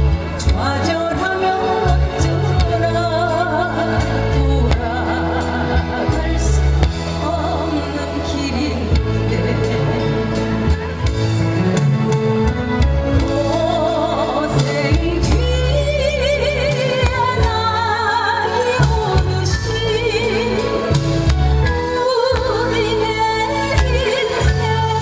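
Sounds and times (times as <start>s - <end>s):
instrumental accompaniment with bass: 0.0s - 25.0s
woman singing slow song: 0.4s - 10.5s, 13.2s - 25.0s.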